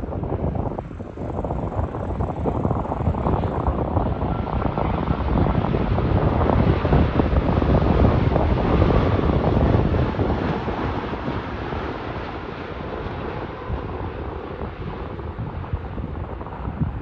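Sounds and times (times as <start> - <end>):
jet airliner passing: 0.0 - 17.0.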